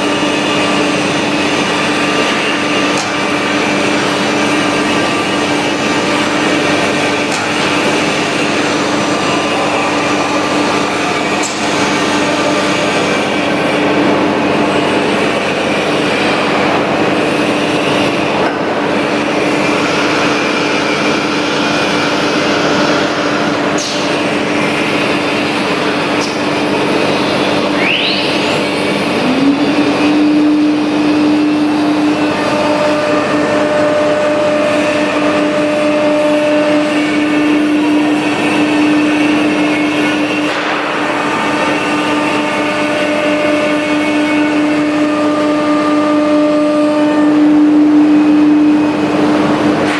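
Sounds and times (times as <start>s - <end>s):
router spindle whine: 0.0s - 49.9s
rush of cutting noise: 0.0s - 49.9s.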